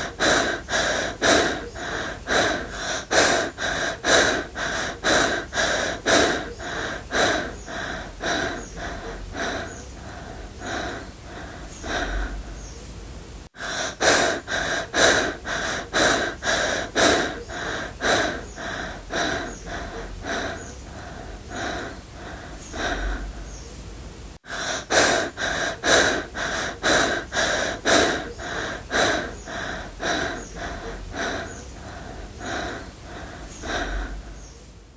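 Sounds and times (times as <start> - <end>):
person panting: 0.0 - 12.7, 13.6 - 23.6, 24.4 - 34.5.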